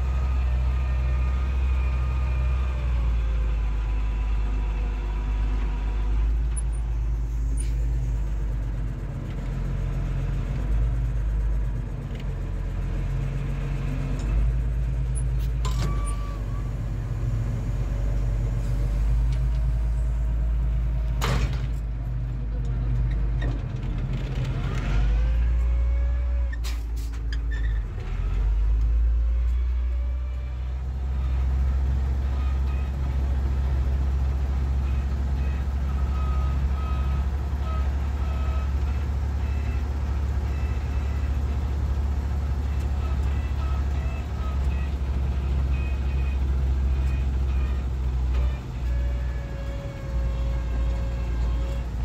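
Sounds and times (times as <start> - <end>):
diesel engine running in cab: 0.0 - 52.0.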